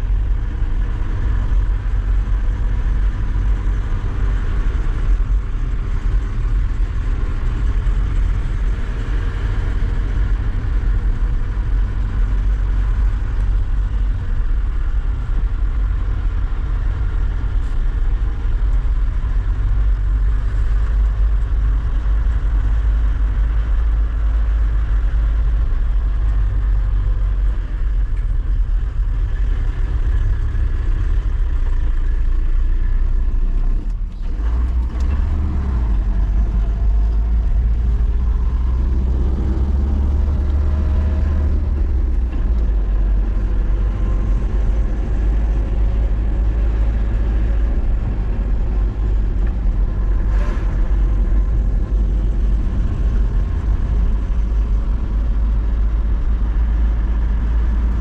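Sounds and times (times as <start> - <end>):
pickup engine rumbling: 0.0 - 58.0.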